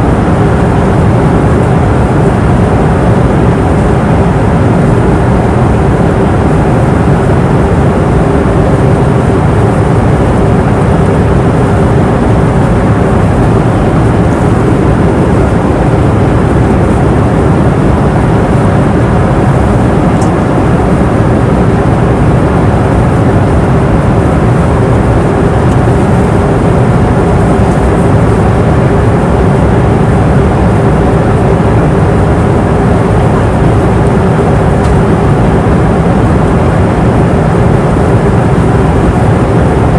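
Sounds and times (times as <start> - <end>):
airplane cabin rushing noise: 0.0 - 39.9
faint steady hum: 0.0 - 39.9.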